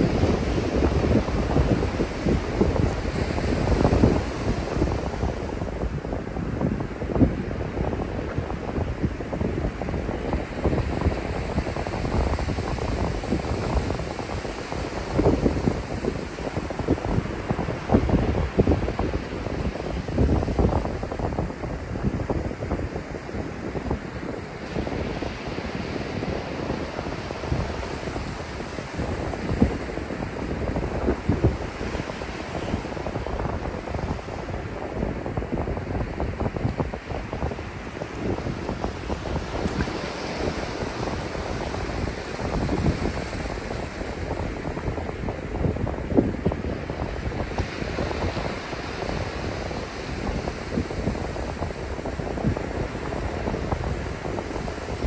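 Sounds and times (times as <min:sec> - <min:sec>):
surf breaking on sand: 0:00.0 - 0:55.0
wind buffeting microphone: 0:00.0 - 0:55.0.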